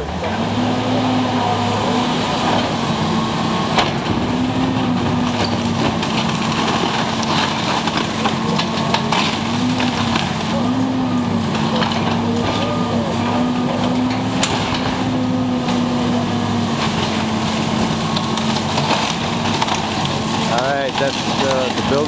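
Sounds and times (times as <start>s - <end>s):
demolition machine engine: 0.0s - 22.0s
knocks and cracks of demolition: 2.2s - 22.0s.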